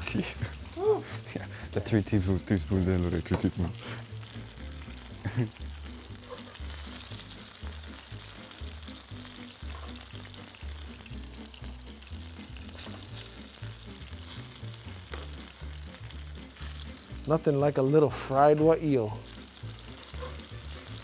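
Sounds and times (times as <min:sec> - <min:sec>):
background music with low beat: 0:00.0 - 0:21.0
fish frying in hot oil: 0:02.4 - 0:17.5, 0:19.2 - 0:21.0.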